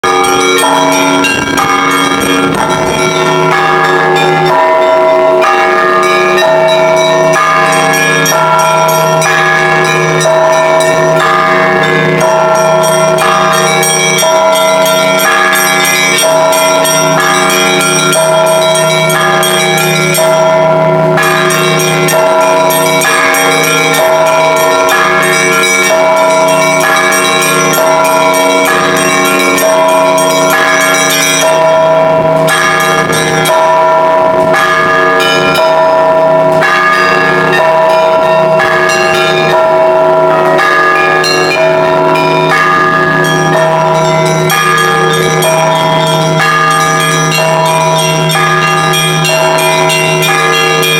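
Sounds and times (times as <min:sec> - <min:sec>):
church bells ringing: 0:00.0 - 0:50.9
low tone of large bells: 0:00.0 - 0:50.9.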